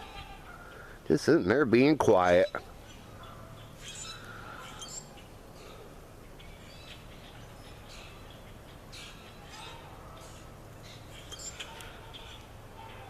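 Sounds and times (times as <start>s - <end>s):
steady low background noise: 0.0s - 13.0s
faint bird chirps: 2.4s - 13.0s.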